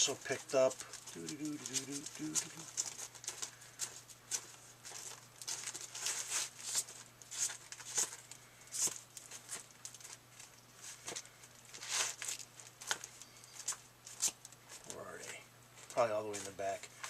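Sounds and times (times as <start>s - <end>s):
faint low hum: 0.0s - 17.0s
plastic bags and paper crinkling: 0.0s - 17.0s.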